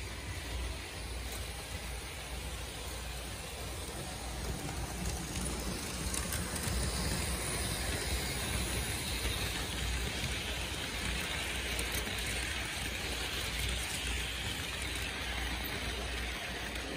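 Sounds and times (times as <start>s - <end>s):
model train wheels rattling: 0.1s - 16.9s.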